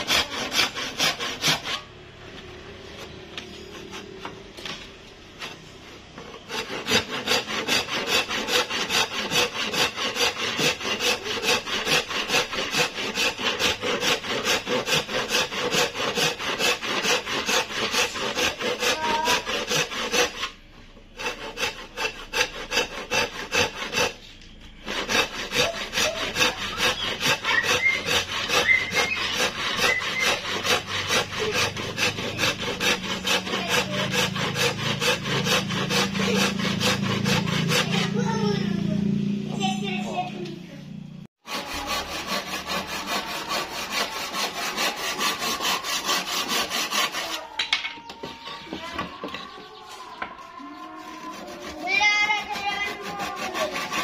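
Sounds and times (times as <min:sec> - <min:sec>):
hand saw cutting wood: 0:00.0 - 0:01.9, 0:06.2 - 0:38.7, 0:41.4 - 0:49.3, 0:50.3 - 0:54.0.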